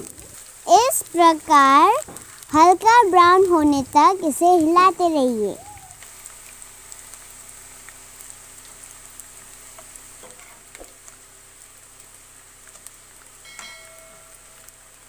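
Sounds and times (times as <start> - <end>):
rice sizzling in oil: 0.0 - 15.0.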